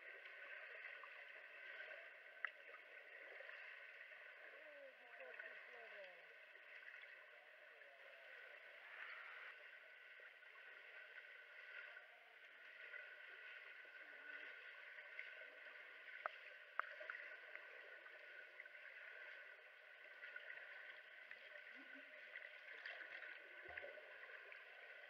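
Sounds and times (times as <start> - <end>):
muffled underwater pool noise: 0.0 - 25.0.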